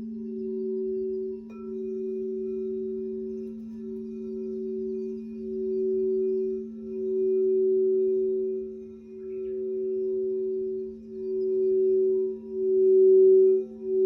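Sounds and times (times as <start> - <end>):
crystal singing bowls ringing: 0.0 - 14.0.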